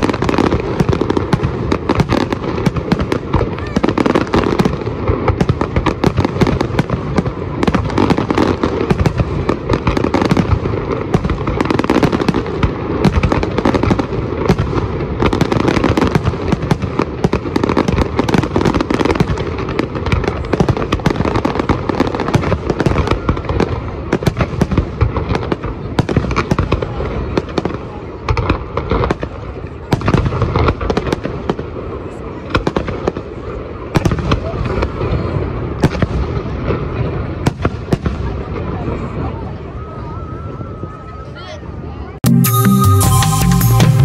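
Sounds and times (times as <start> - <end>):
fireworks bangs and crackles: 0.0 - 42.2.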